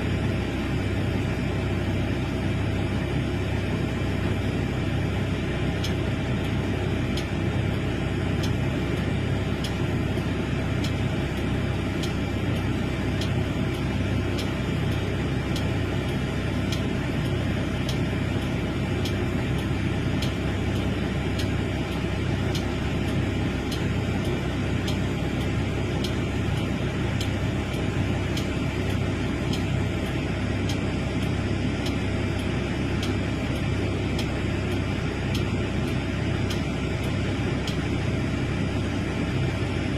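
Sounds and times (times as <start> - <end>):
diesel engine throbbing: 0.0 - 39.9.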